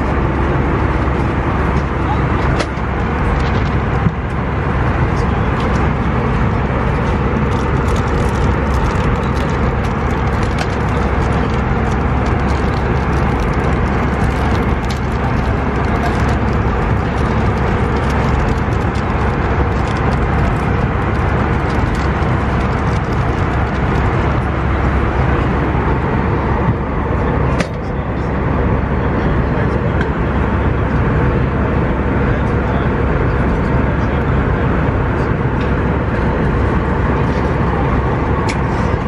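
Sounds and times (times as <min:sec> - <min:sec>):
airplane cabin airflow and engine drone: 0:00.0 - 0:39.0.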